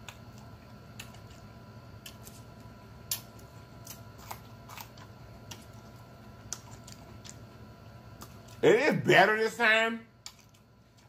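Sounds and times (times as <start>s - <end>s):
person chewing food: 0.0s - 8.6s, 10.2s - 11.0s
faint steady hum: 0.0s - 11.0s.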